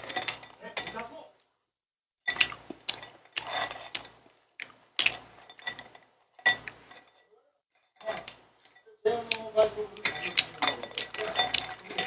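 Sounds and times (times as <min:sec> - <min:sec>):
cutlery and dishes clinking: 0:00.0 - 0:01.2, 0:02.3 - 0:12.0.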